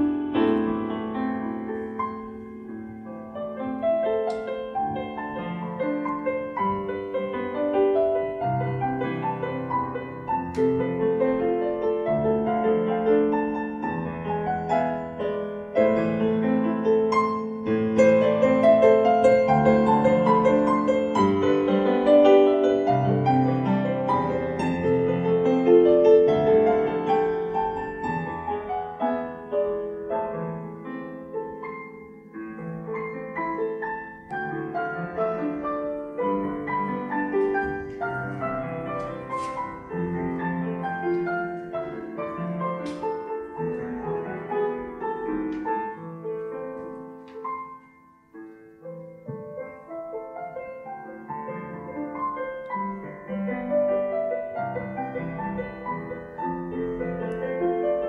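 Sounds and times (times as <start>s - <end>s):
solo piano melody: 0.0s - 58.0s.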